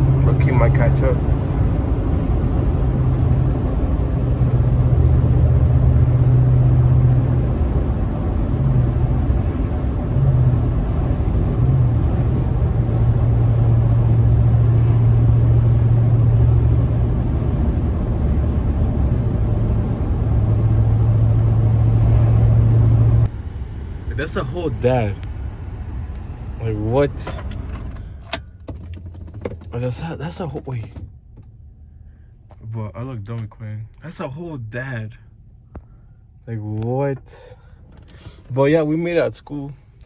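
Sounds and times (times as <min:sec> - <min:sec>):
road noise: 0:00.0 - 0:40.0
truck engine hum: 0:00.0 - 0:40.0.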